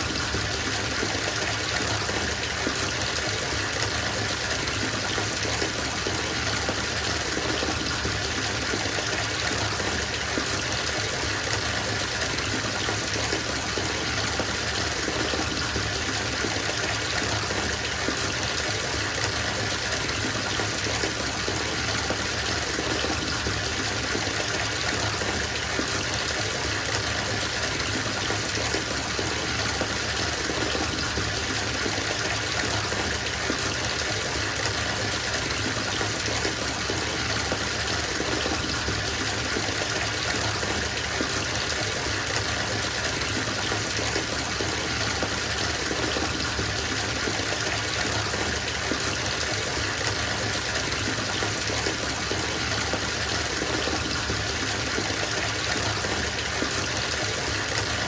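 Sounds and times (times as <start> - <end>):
water gushing into bathtub: 0.0 - 58.0.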